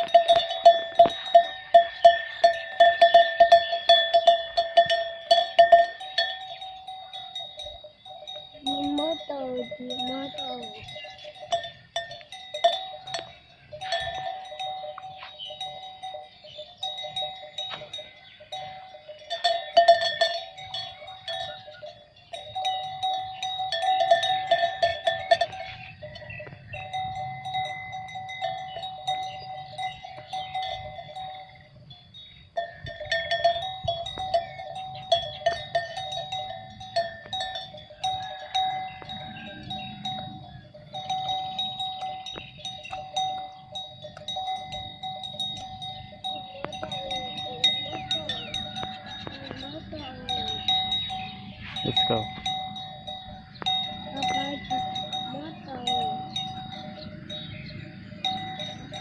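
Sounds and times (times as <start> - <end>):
cattle bells clanking: 0.0 - 59.0.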